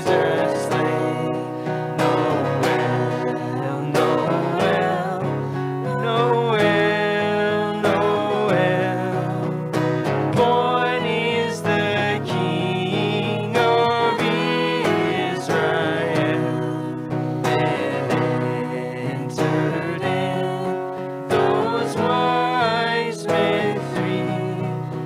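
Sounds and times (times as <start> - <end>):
acoustic guitar strumming: 0.0 - 25.0
voices singing: 0.0 - 25.0.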